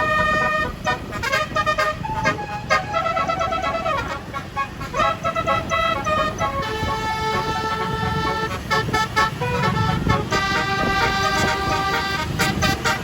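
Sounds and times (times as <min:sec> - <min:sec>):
bus horn playing a melody: 0:00.0 - 0:13.0
low engine rumble: 0:00.0 - 0:13.0.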